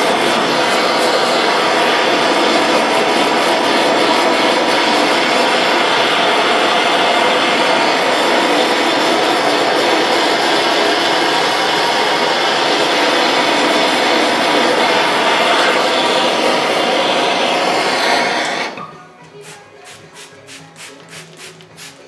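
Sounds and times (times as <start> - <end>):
blowtorch hissing: 0.0 - 18.9.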